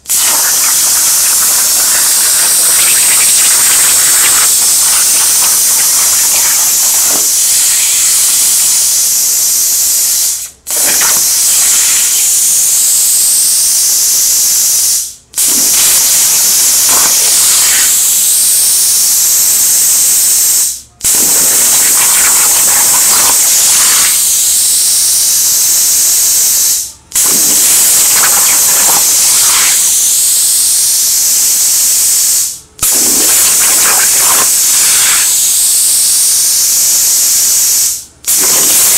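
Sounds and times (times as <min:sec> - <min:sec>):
plasma torch hissing: 0:00.0 - 0:38.9.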